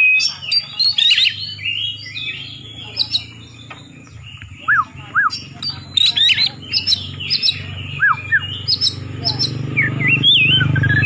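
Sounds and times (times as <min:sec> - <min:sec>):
bird singing whistled notes: 0:00.0 - 0:11.0.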